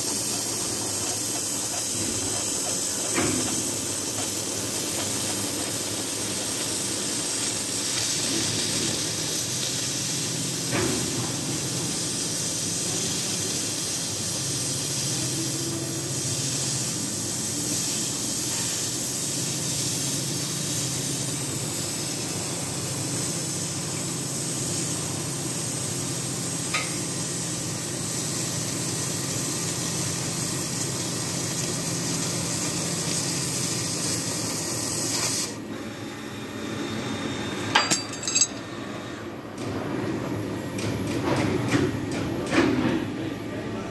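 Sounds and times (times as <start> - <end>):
cutting torch hissing: 0.0 - 35.7.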